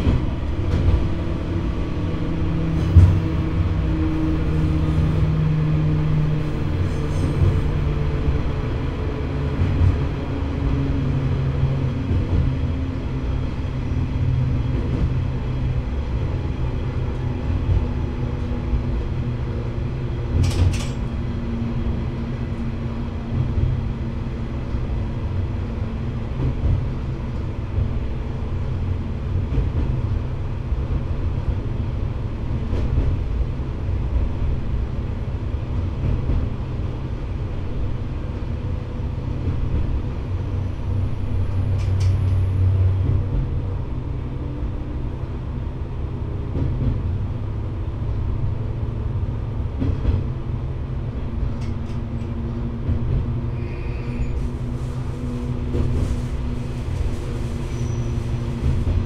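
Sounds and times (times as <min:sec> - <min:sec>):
diesel railcar engine: 0:00.0 - 0:59.0
wheels rumbling on rail: 0:00.0 - 0:59.0.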